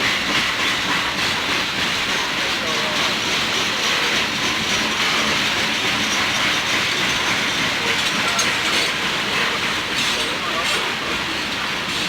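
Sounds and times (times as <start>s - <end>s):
steel wheels rushing on rail: 0.0s - 12.0s.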